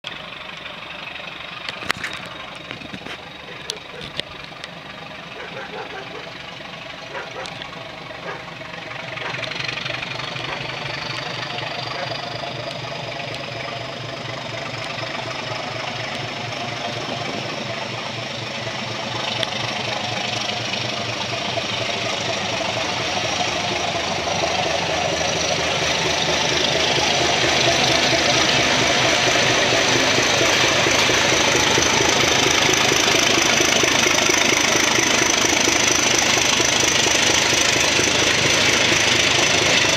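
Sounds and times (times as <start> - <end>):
diesel locomotive engine pulsing: 0.0 - 39.9.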